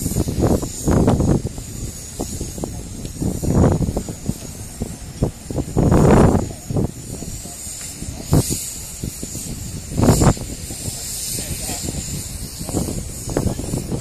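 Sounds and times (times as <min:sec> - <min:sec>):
steady high hiss: 0:00.0 - 0:14.0
wind buffeting microphone: 0:00.0 - 0:14.0.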